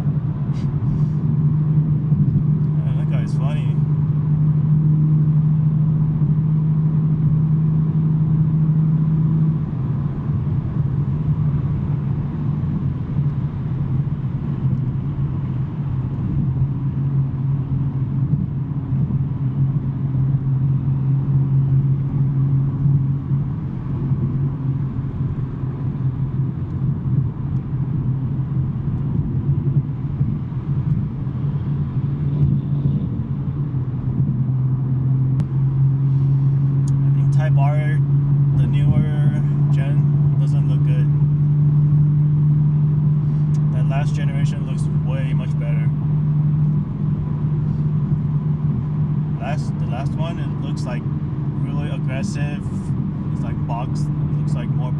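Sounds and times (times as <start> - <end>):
car engine droning hum: 0.0 - 54.9
road noise: 0.0 - 54.9.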